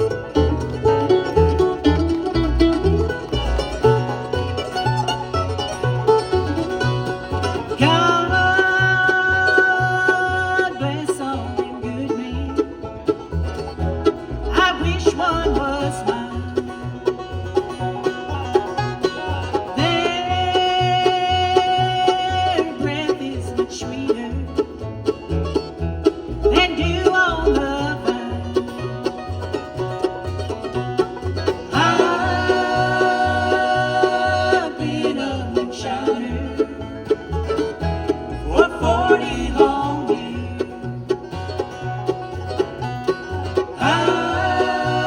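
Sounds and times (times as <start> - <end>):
banjo picking: 0.0 - 45.0
guitar: 0.0 - 45.0.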